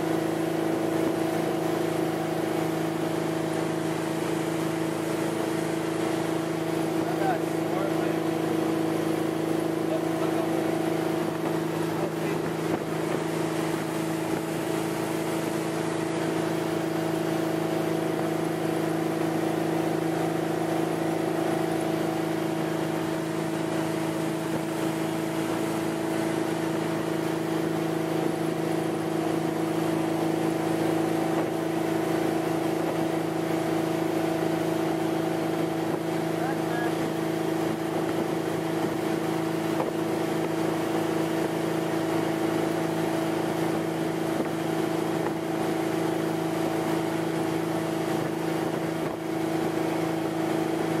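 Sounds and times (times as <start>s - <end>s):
boat engine droning: 0.0s - 51.0s
rushing water and air: 0.0s - 51.0s.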